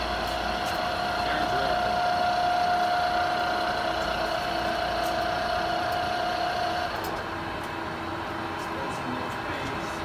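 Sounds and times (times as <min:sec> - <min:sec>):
lathe carriage whine: 0:00.0 - 0:10.0
lathe running noise: 0:00.0 - 0:10.0.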